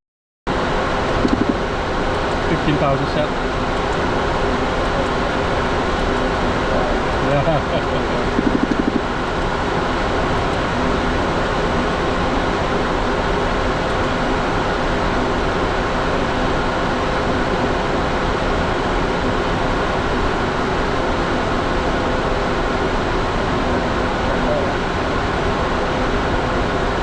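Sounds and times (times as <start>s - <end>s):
airflow and jet engine noise: 0.5s - 27.0s
faint steady hum: 0.6s - 27.0s.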